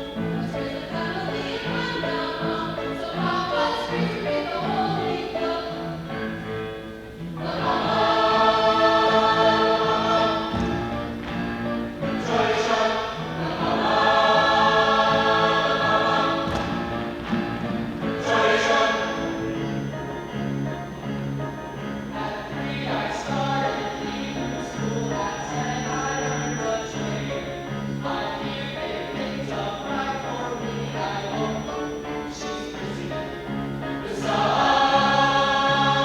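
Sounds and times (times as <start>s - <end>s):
chorus singing: 0.0s - 36.0s
instrumental accompaniment: 0.0s - 36.0s.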